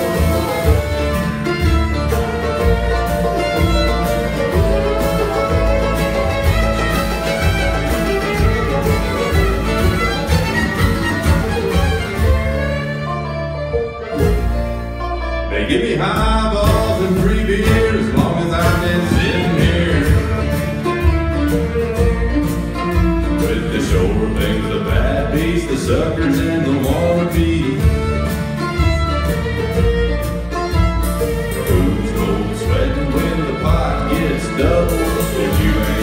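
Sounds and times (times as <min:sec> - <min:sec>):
bluegrass band playing: 0:00.0 - 0:36.0.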